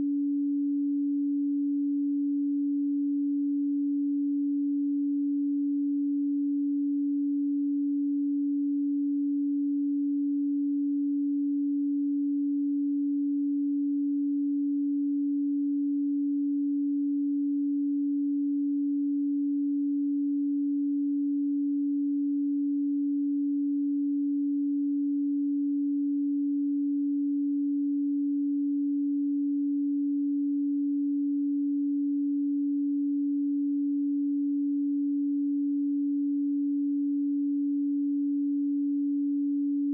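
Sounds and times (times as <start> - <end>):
pure sine tone: 0.0 - 39.9.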